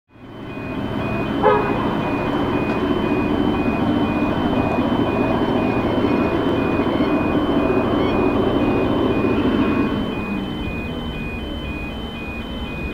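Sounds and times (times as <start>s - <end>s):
diesel locomotive rumble: 0.1s - 12.9s
two-tone electronic warning beeps: 0.1s - 12.9s
rising squeal: 0.2s - 12.9s.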